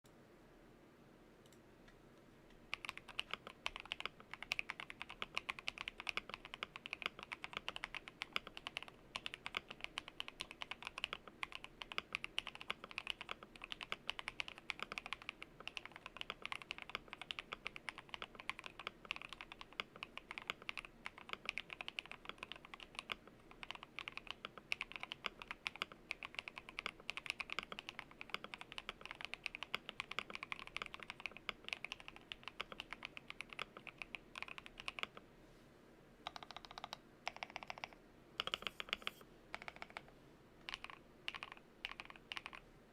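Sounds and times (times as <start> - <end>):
faint background hum: 0.0 - 42.9
fast typing on mechanical keyboard: 2.7 - 35.2, 36.3 - 40.1, 40.7 - 42.6.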